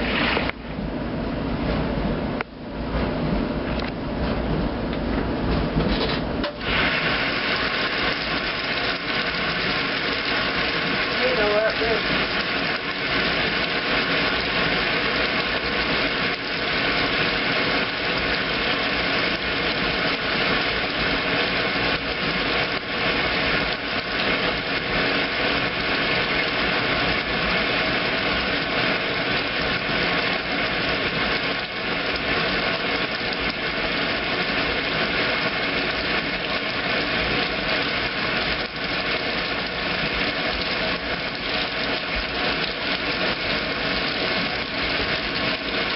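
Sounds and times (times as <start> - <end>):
washing machine motor hum: 0.0 - 45.9.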